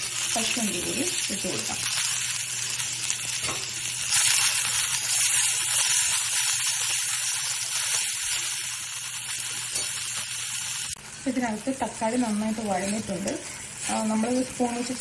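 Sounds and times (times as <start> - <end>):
food sizzling in butter: 0.0 - 15.0.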